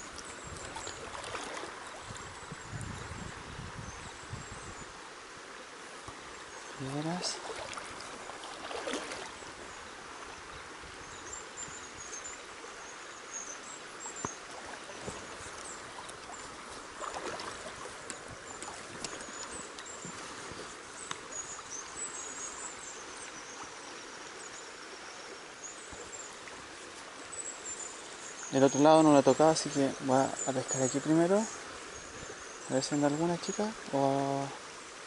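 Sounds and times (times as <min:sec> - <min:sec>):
river current rippling: 0:00.0 - 0:35.0.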